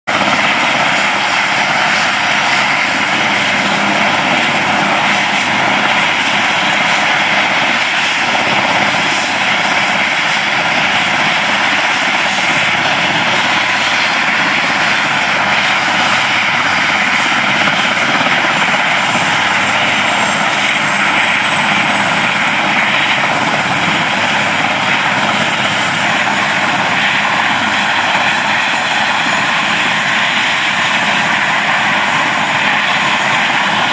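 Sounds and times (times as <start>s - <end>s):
helicopter turbine whine and rotor: 0.1s - 33.9s.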